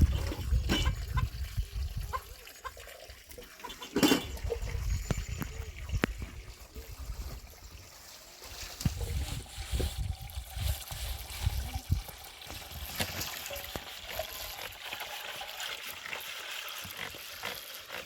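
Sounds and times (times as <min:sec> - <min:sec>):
water trickling: 0:00.0 - 0:18.0.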